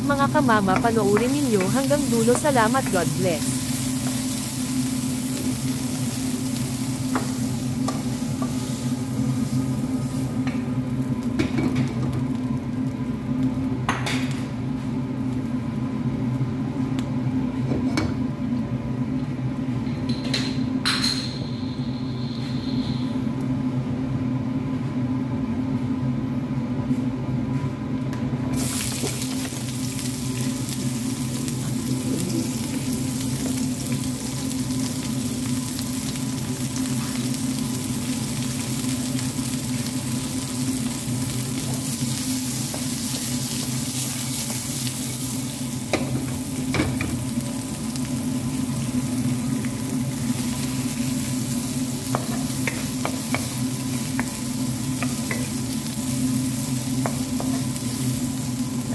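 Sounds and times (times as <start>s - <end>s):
food sizzling in hot oil: 0.0s - 17.1s, 28.6s - 58.9s.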